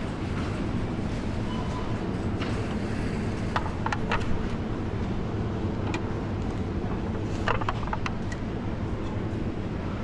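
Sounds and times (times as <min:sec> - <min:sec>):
refrigerator low hum: 0:00.0 - 0:10.0.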